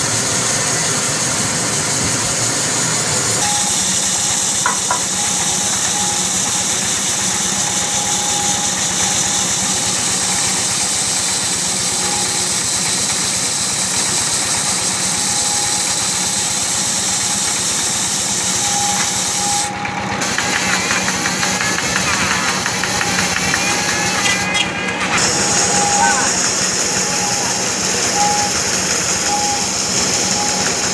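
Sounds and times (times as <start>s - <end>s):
hiss of lathe cutting wood: 0.0s - 30.9s
wood lathe drone: 0.0s - 30.9s.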